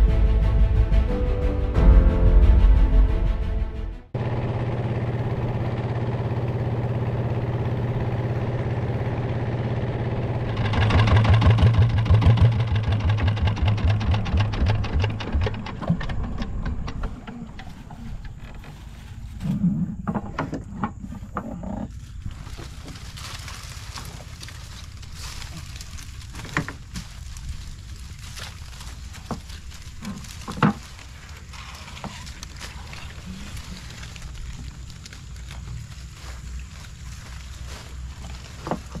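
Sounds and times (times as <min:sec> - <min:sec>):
small boat engine humming: 0:04.1 - 0:39.0.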